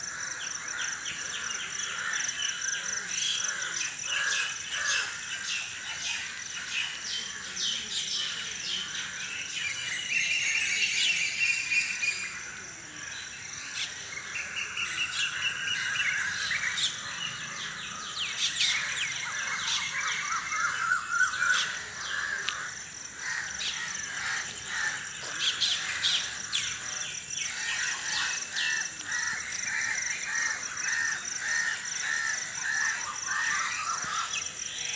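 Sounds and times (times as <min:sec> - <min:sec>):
birds chirping and calling: 0:00.0 - 0:34.9.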